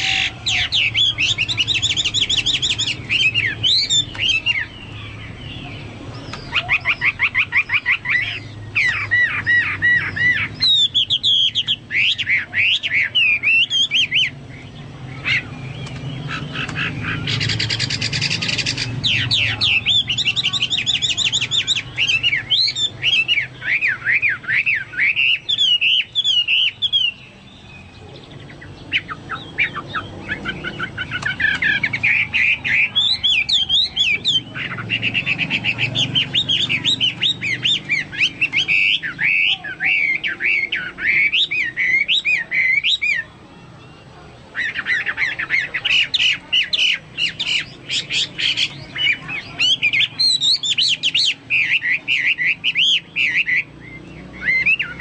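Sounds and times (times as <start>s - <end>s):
bird singing rapid warbling phrases: 0.0s - 55.0s.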